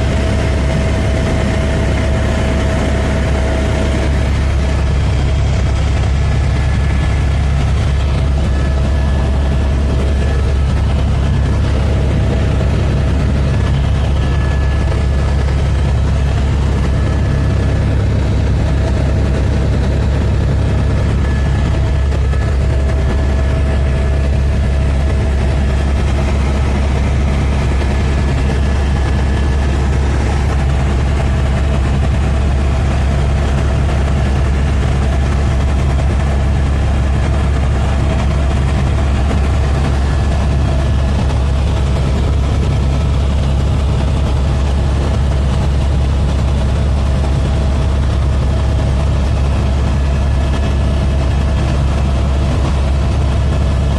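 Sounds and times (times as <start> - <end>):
helicopter engine and rotor drone: 0.0 - 53.9.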